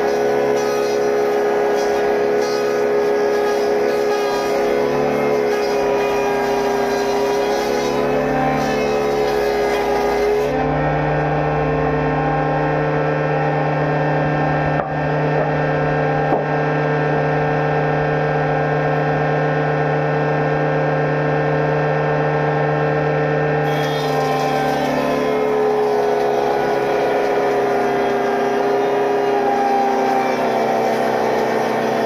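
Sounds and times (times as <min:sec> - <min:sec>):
woodworking machine motor humming: 0:00.0 - 0:32.0.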